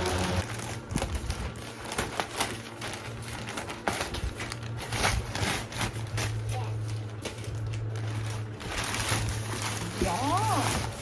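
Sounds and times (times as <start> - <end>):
cardboard and tape crackling: 0.0 - 11.0.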